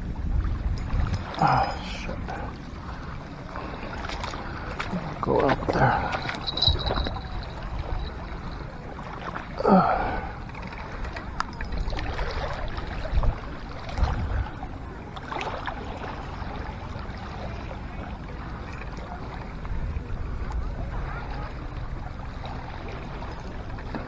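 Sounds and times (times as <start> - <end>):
water lapping at shoreline: 0.0 - 24.0
wind rumbling on microphone: 0.0 - 24.0.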